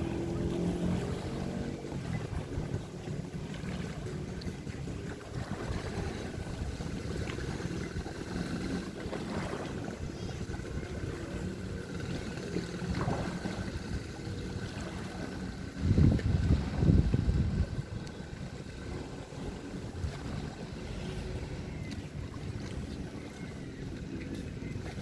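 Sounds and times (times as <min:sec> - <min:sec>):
faint motor hum: 0:00.0 - 0:25.0
wind and surf rumble: 0:00.0 - 0:25.0.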